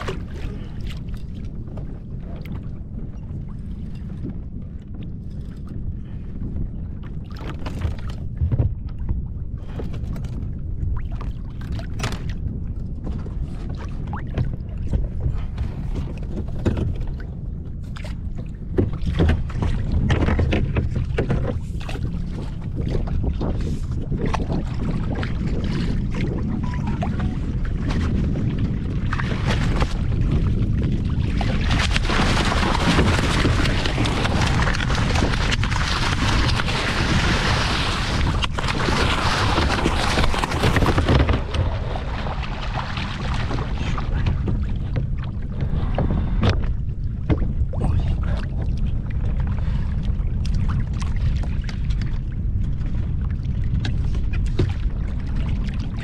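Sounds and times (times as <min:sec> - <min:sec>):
water splashing against kayak hull: 0:00.0 - 0:56.0
wind rumble on microphone: 0:00.0 - 0:56.0.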